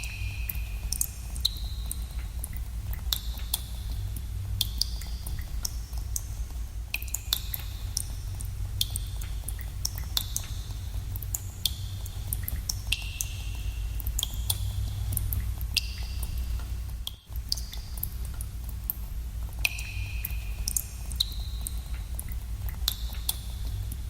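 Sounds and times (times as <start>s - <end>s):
steady low rumble: 0.0s - 24.0s
water dripping: 0.0s - 24.0s.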